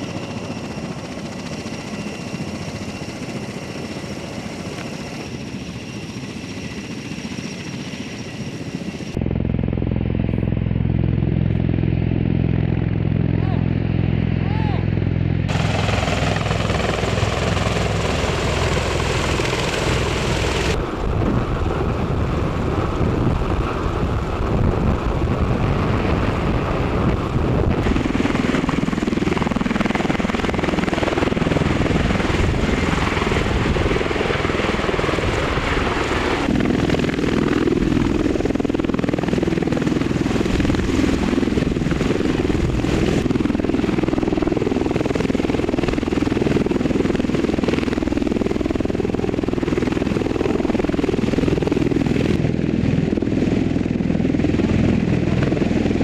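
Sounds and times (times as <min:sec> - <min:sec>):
tiltrotor aircraft hovering: 0:00.0 - 0:56.0.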